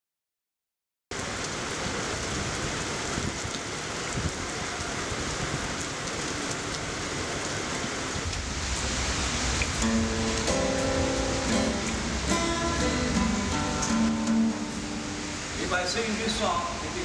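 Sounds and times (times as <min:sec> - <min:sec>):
heavy rain on paving and grass: 0:01.1 - 0:17.0.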